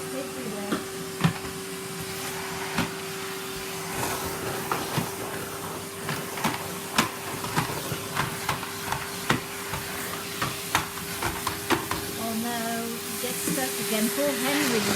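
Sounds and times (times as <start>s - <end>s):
vacuum cleaner running: 0.0s - 14.9s.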